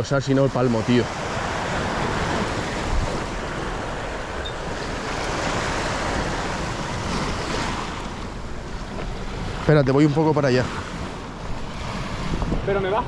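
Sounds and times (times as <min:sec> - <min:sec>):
waves washing over rocks: 0:00.0 - 0:13.0
wind on microphone: 0:00.8 - 0:09.7, 0:10.6 - 0:13.0.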